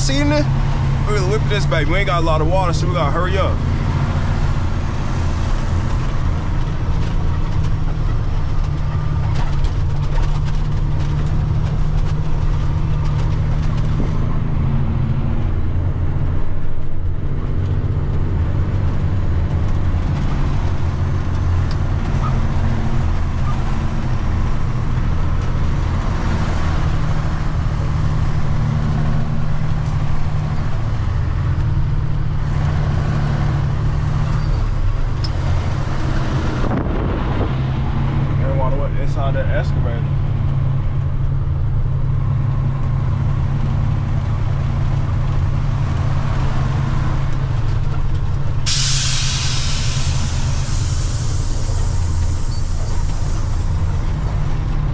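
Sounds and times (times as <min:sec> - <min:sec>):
diesel engine drone: 0:00.0 - 0:54.9.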